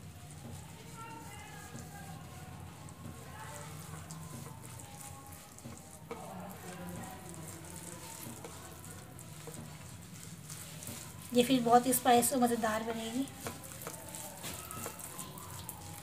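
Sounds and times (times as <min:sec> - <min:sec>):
fingers squishing paste on plate: 0:00.3 - 0:11.6, 0:12.3 - 0:16.0.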